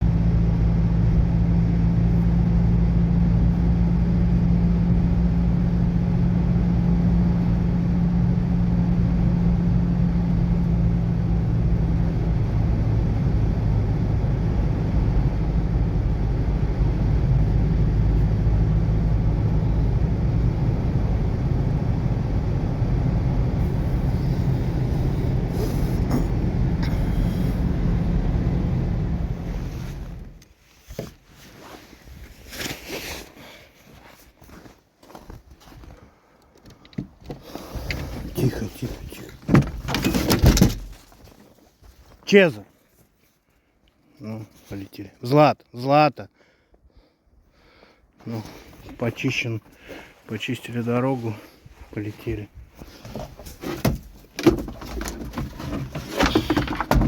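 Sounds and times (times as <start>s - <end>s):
car engine and road noise: 0.0s - 32.4s, 36.6s - 42.5s, 48.2s - 57.0s.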